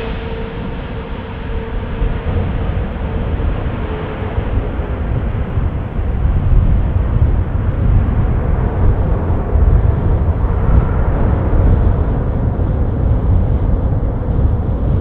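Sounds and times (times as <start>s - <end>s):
aircraft engine rumble: 0.0s - 15.0s.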